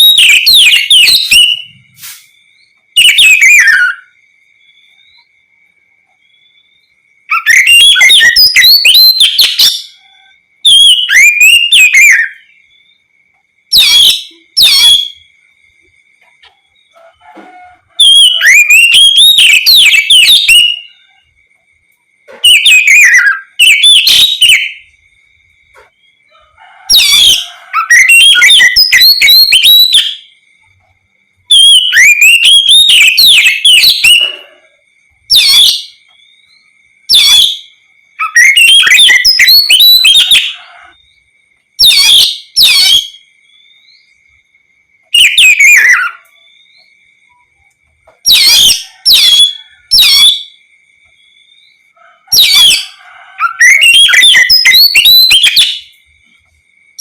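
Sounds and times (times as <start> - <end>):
bird singing whistled notes: 0.0 - 21.4, 22.2 - 26.2, 26.9 - 30.8, 31.4 - 44.4, 45.1 - 50.6, 51.4 - 56.1.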